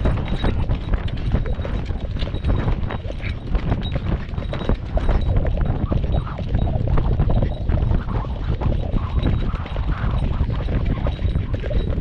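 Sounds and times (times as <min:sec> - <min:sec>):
horse hoofbeats on dirt: 0:00.0 - 0:12.0
low rumble on microphone: 0:00.0 - 0:12.0.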